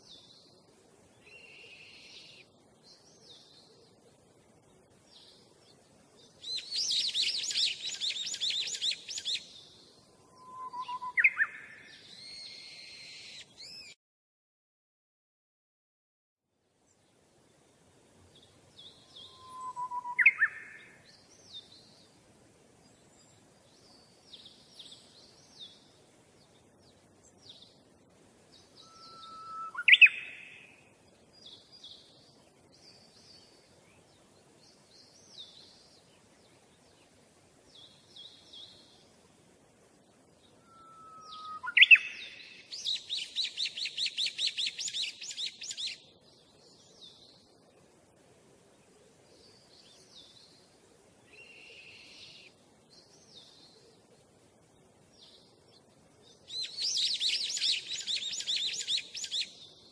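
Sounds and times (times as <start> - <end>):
songbirds chirping: 0.0 - 14.0, 16.6 - 59.9.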